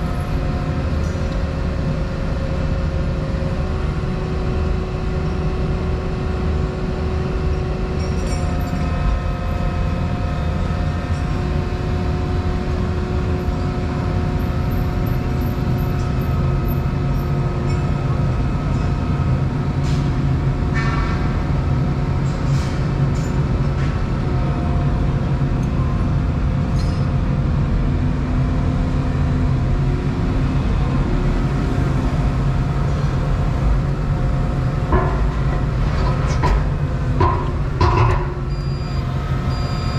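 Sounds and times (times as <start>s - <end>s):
excavator engine drone: 0.0s - 39.9s.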